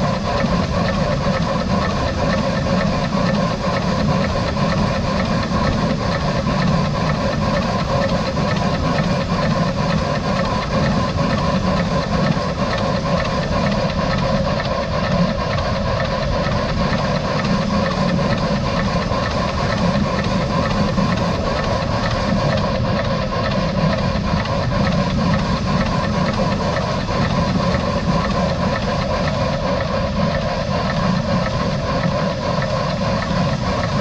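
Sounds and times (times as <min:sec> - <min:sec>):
steam locomotive rumble: 0:00.0 - 0:34.0.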